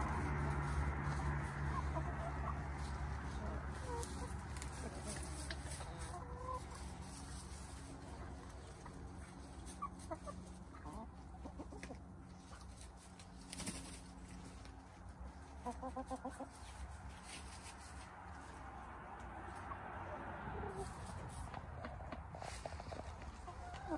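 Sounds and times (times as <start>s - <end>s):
hens clucking: 0.0s - 23.9s.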